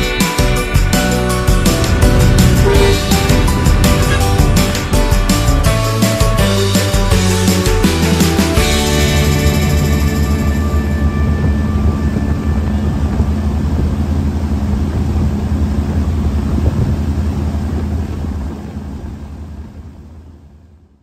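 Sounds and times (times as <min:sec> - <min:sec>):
speedboat engine running: 0:00.0 - 0:21.0
water rushing along hull: 0:00.0 - 0:21.0.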